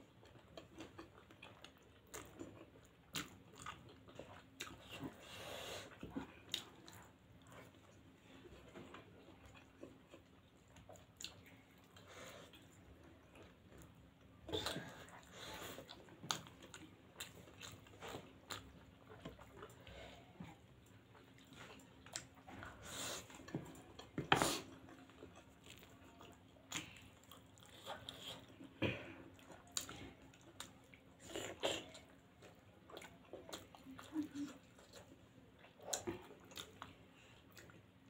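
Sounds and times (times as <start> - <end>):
people chewing food: 0.0 - 38.0.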